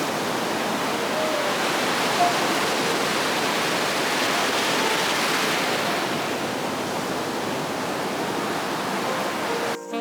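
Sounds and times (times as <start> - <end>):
ocean waves on a beach: 0.0 - 9.8.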